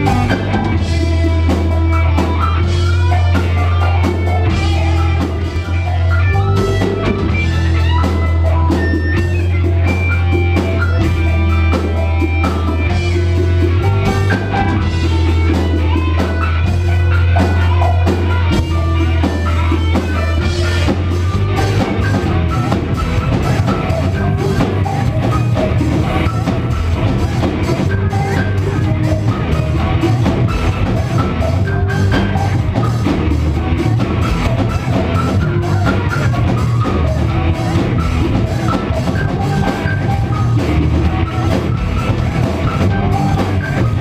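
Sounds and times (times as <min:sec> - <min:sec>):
rock band playing instrumental: 0:00.0 - 0:44.0.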